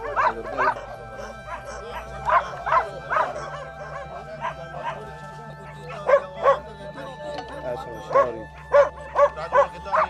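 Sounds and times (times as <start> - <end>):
dog barking: 0.0 - 6.7, 8.1 - 10.0.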